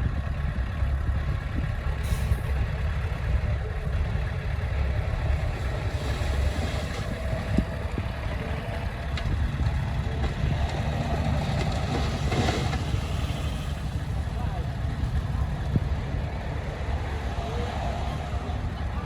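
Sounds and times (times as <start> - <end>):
heavy diesel engine rumbling: 0.0 - 19.0.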